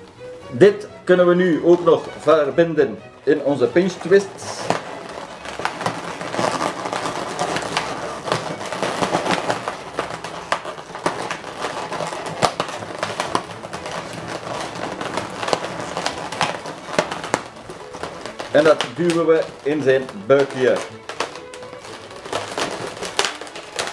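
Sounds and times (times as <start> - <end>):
balloons squeaking and creaking: 0.0 - 23.9.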